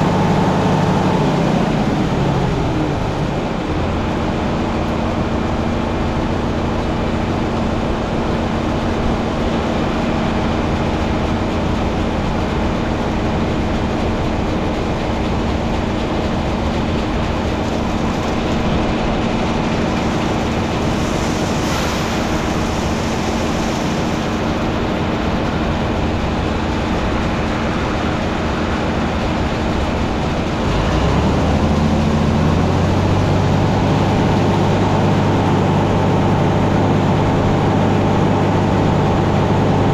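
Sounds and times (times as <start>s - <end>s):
heavy farm machinery running: 0.0s - 39.9s.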